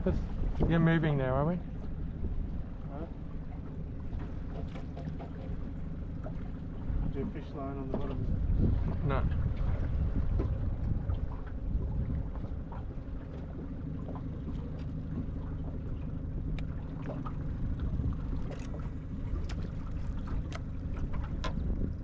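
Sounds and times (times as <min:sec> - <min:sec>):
water slapping against hull: 0:00.0 - 0:22.0
wind rumbling on microphone: 0:00.0 - 0:22.0.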